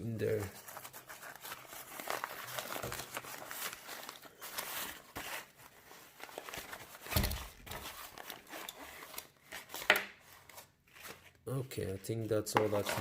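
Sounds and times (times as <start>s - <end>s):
bag rustling and crinkling: 0.2s - 11.4s.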